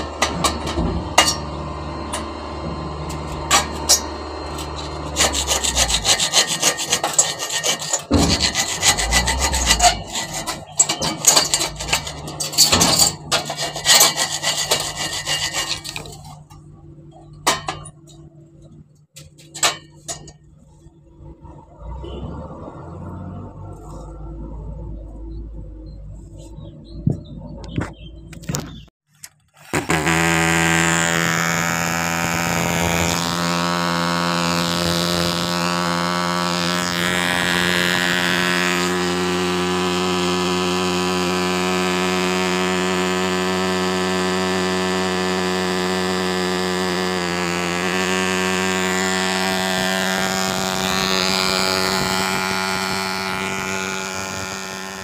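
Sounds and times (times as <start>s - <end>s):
pulse-jet engine buzzing drone: 0.0s - 18.9s, 29.7s - 55.0s.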